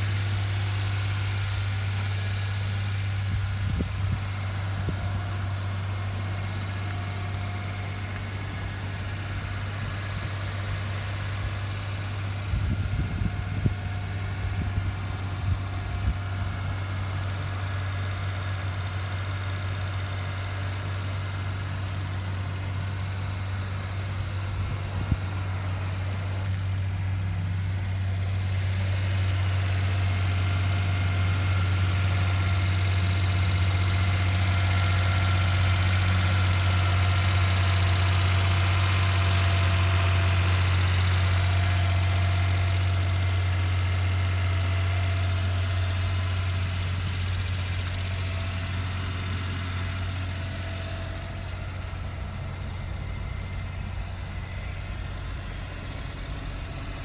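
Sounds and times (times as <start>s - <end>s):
small truck engine idling: 0.0s - 57.0s.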